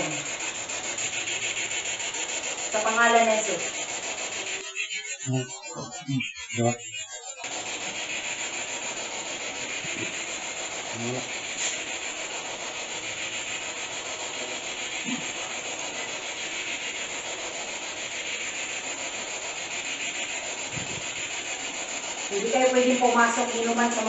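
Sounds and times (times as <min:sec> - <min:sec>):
steady static hiss: 0:00.0 - 0:04.9, 0:07.5 - 0:24.0.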